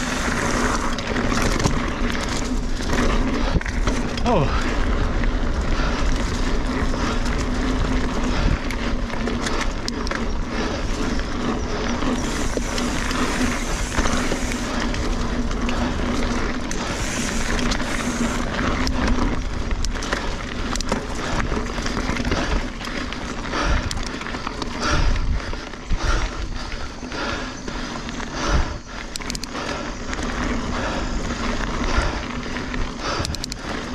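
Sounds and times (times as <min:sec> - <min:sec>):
bike rattles and knocks: 0:00.0 - 0:33.9
bike tyres rolling over dirt: 0:00.0 - 0:33.9
wind rumble on microphone: 0:00.0 - 0:33.9.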